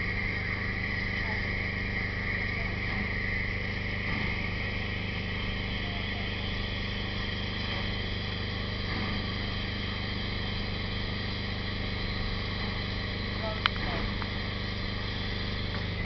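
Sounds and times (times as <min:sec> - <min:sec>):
low hum: 0:00.0 - 0:16.0
steam hissing: 0:00.0 - 0:16.0.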